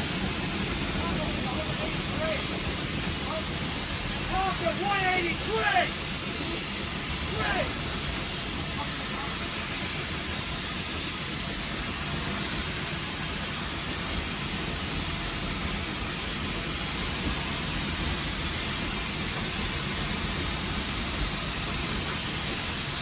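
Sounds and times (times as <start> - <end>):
steam locomotive hiss and rumble: 0.0 - 23.0.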